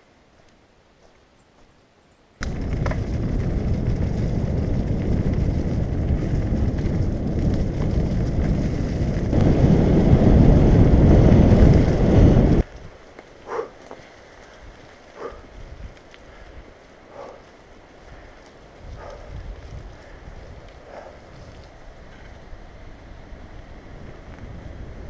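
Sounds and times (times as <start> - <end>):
wind buffeting microphone: 2.4 - 13.7, 14.4 - 25.0
bike tyres rumbling on dirt: 2.4 - 25.0.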